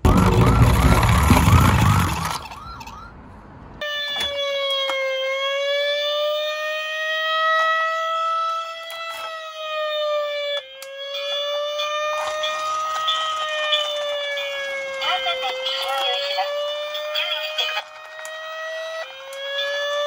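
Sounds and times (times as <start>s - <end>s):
toy fire truck siren wailing: 0.0s - 3.2s, 3.8s - 20.0s.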